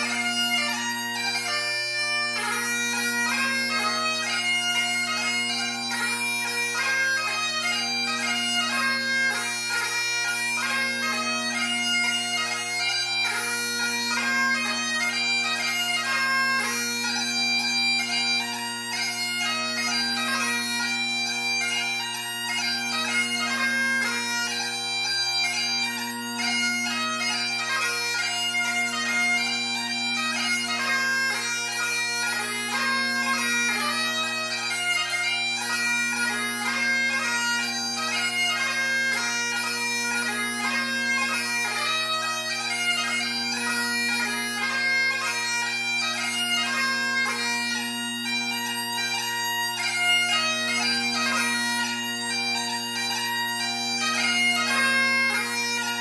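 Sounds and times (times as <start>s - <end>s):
bagpipe playing: 0.0s - 56.0s.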